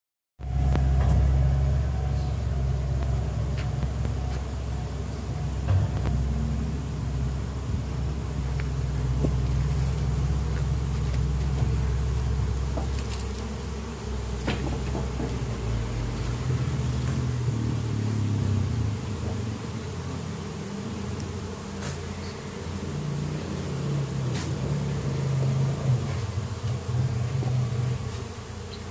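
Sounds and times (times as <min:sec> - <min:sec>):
honeybees buzzing: 0:00.4 - 0:28.9
low engine-like hum: 0:00.4 - 0:28.9.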